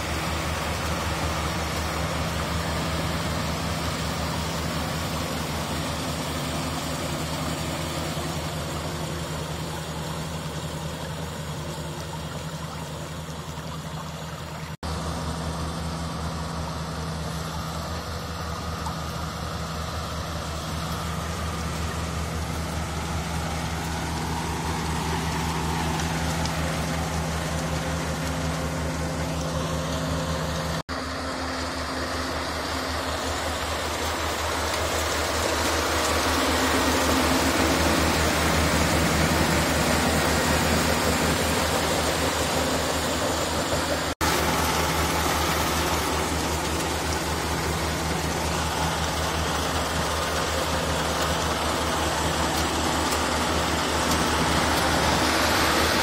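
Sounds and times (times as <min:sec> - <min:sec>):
combine harvester engine drone: 0:00.0 - 0:56.0.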